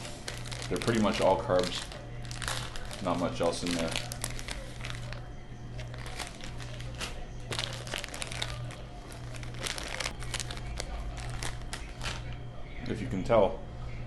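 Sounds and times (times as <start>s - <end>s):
plastic snack bag crinkling: 0.0s - 12.4s
steady low hum: 0.0s - 14.0s.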